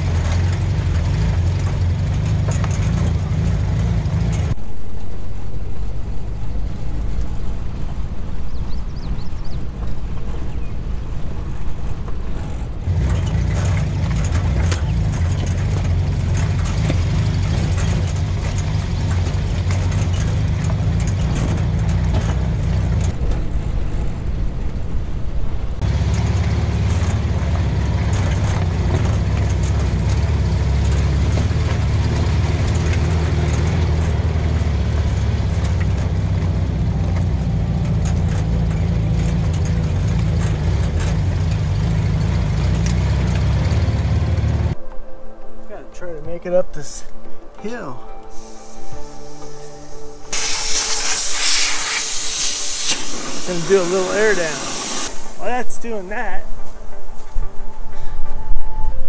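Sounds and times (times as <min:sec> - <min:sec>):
van engine running: 0:00.0 - 0:44.8, 0:48.4 - 0:57.7.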